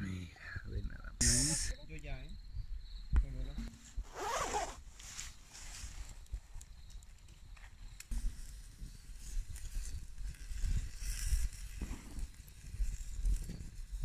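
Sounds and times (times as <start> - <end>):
campfire hissing and crackling: 0.0 - 14.0.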